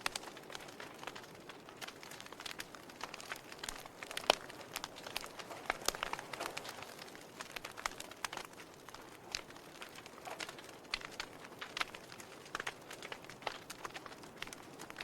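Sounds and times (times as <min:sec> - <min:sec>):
logs crackling and popping: 0:00.0 - 0:15.0
soft fire hiss: 0:00.0 - 0:15.0.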